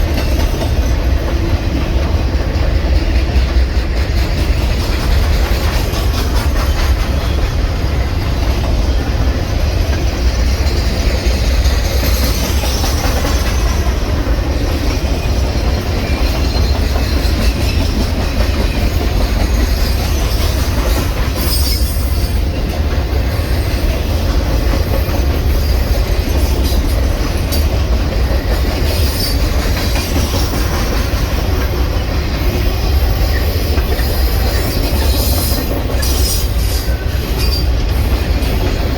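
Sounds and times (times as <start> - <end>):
train rumbling on rails: 0.0 - 38.9.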